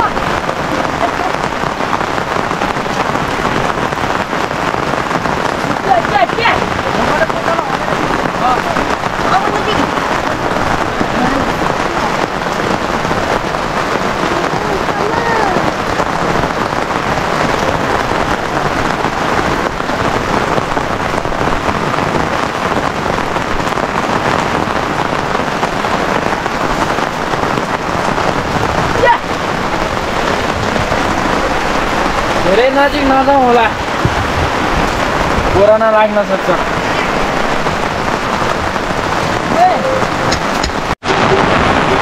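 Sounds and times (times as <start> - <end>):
rain splashing on surfaces: 0.0 - 42.0.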